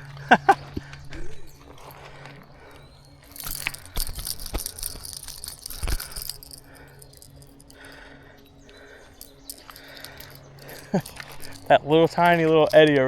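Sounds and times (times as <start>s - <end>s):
fishing lure hooks jingling: 0.0s - 13.0s.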